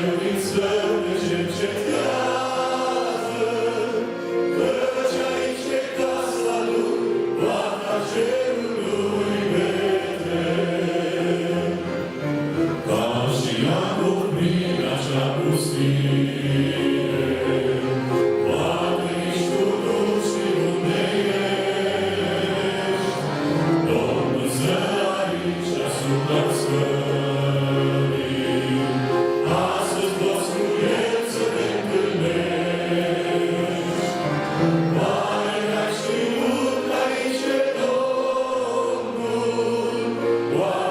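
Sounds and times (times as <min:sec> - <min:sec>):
church choir singing a hymn: 0:00.0 - 0:40.9
steady accompaniment: 0:00.0 - 0:40.9.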